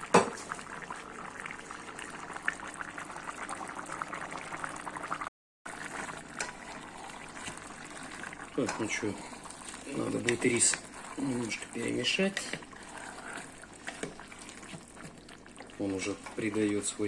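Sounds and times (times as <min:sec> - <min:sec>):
rice bubbling in a pot: 0:00.0 - 0:17.0.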